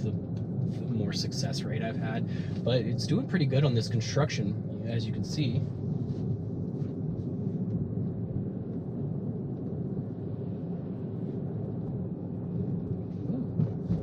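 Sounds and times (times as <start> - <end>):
car road and tyre noise: 0.0 - 14.0.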